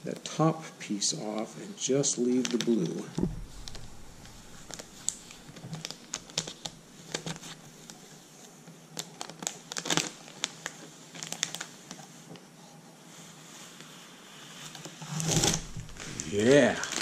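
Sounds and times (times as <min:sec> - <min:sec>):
plastic sheet crinkling and crackling: 0:02.2 - 0:12.4, 0:13.2 - 0:17.0.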